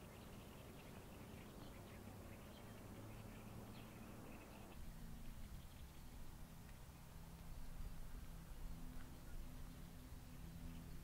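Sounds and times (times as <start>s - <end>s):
faint bird chirp: 0.0s - 11.0s
low wind rumble: 0.0s - 11.0s
steady low hum: 0.0s - 11.0s.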